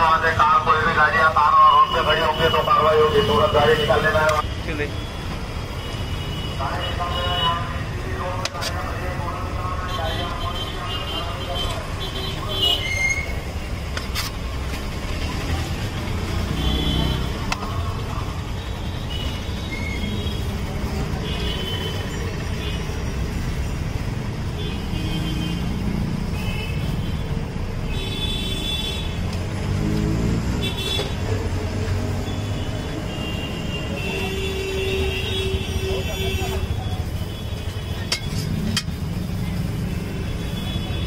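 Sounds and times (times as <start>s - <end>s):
traffic engine rumble: 0.0s - 41.0s.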